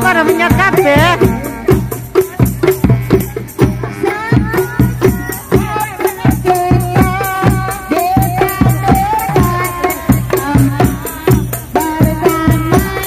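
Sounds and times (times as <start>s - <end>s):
bass drum beat: 0.0s - 13.0s
frame drums playing: 0.0s - 13.0s.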